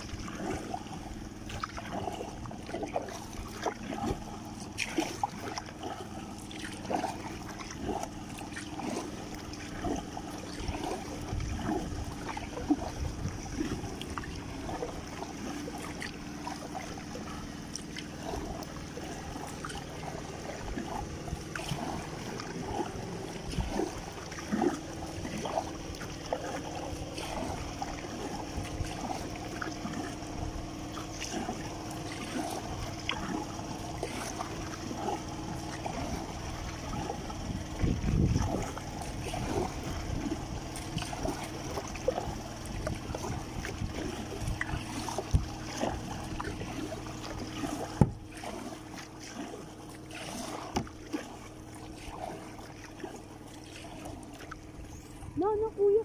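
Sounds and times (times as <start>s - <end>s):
paddle splashes and drips: 0.0s - 56.0s
water lapping around kayak: 0.0s - 56.0s.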